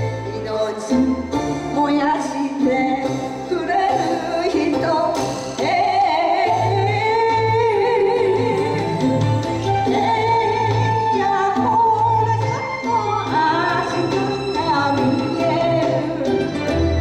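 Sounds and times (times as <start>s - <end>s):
musical accompaniment: 0.0s - 17.0s
woman singing into microphone: 0.0s - 17.0s.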